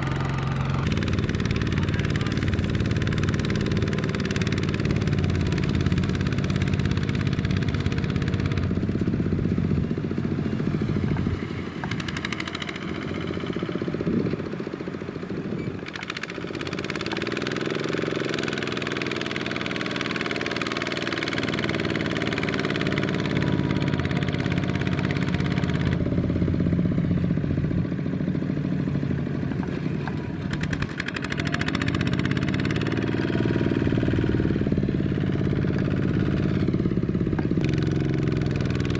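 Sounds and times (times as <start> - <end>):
diesel tractor engine straining: 0.0 - 38.9.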